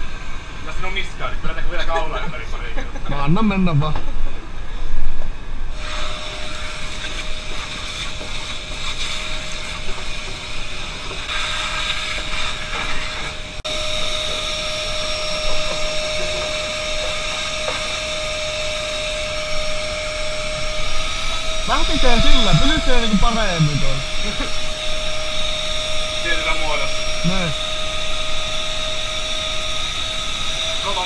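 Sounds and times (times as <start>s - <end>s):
vacuum cleaner running with whine: 5.6s - 31.0s.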